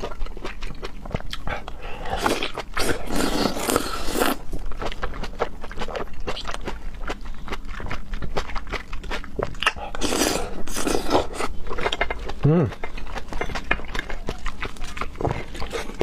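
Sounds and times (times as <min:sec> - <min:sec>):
wet chewing and mouth clicks: 0:00.0 - 0:16.0.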